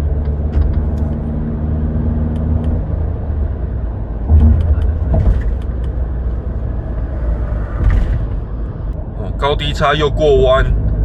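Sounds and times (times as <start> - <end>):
engine drone: 0.0 - 11.0
road rumble inside car: 0.0 - 11.0.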